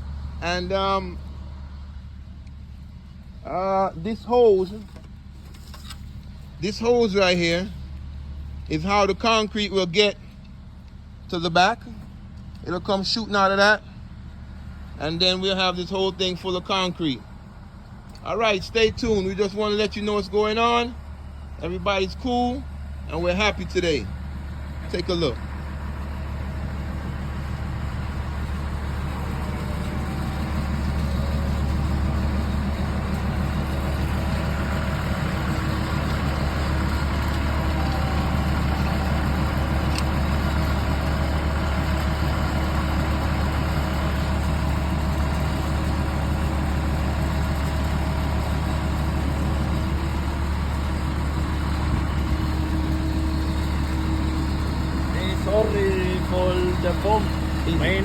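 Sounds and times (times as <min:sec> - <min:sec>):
concrete pump engine humming: 0:00.0 - 0:58.0.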